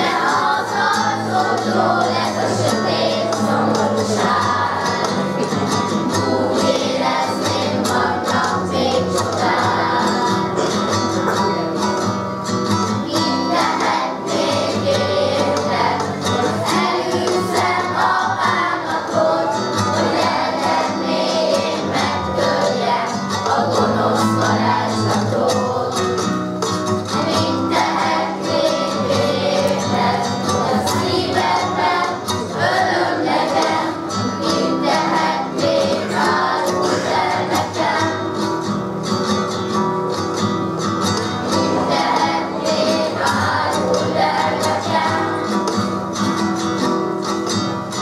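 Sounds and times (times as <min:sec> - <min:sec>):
children's choir singing: 0:00.0 - 0:38.9, 0:41.1 - 0:47.4
acoustic guitar accompaniment: 0:00.0 - 0:48.0.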